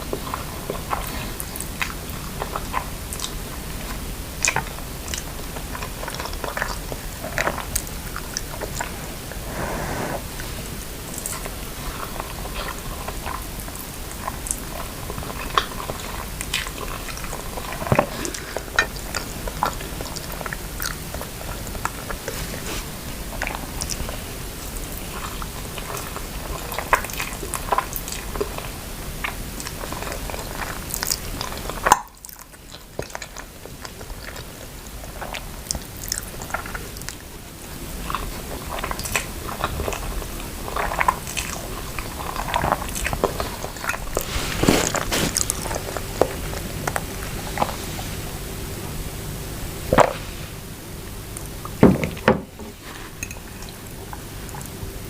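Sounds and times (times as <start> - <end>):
chewing noodles and chicken: 0.0 - 48.8, 52.7 - 55.0.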